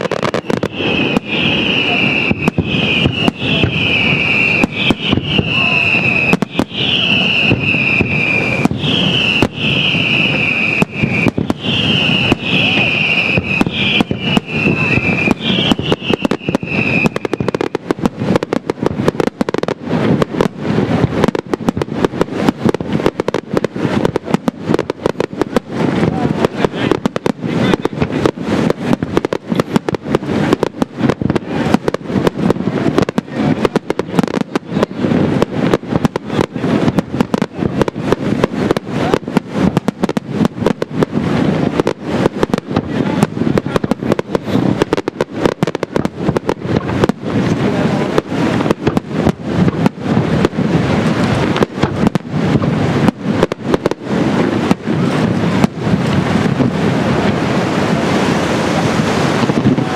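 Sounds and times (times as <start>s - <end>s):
fireworks barrage: 0.0s - 59.9s
fireworks stars crackling: 0.0s - 59.9s.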